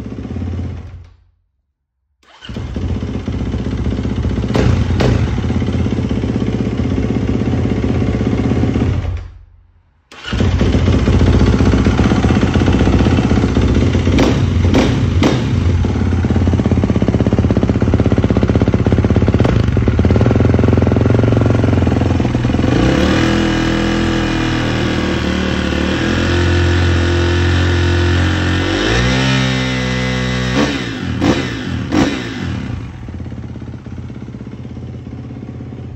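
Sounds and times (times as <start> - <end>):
motorcycle engine running and revving: 0.0 - 1.0, 2.3 - 9.2, 10.2 - 35.9.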